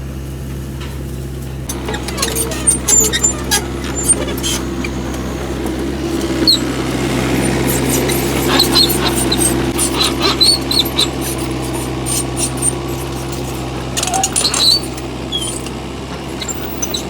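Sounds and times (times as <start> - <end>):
excavator diesel engine running: 0.0 - 17.0
short high squeaks: 1.6 - 17.0.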